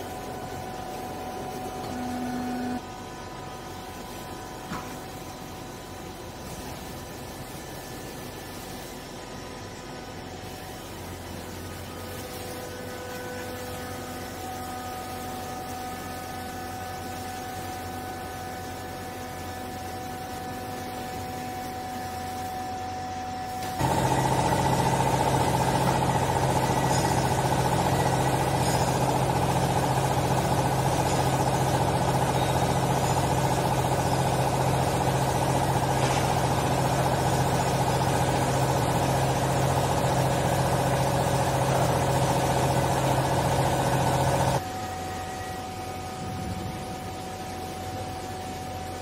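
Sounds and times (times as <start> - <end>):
hydraulic power unit hum: 0.0 - 49.0
loud mechanical drone of press: 0.0 - 49.0.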